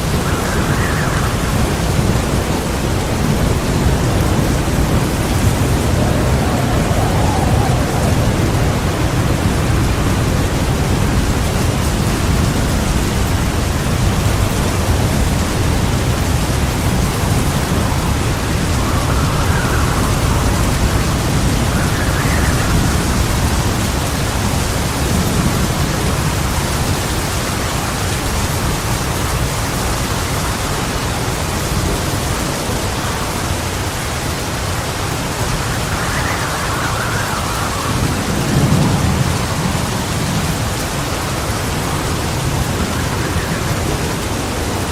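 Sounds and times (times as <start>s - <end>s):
heavy rain falling: 0.0s - 44.9s
low rumble of thunder: 0.0s - 44.9s.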